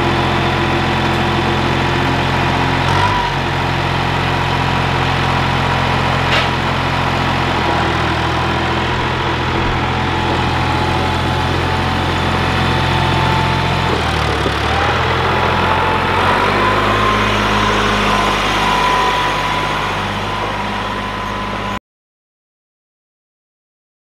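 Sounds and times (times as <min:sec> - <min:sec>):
tractor engine running: 0:00.0 - 0:21.8.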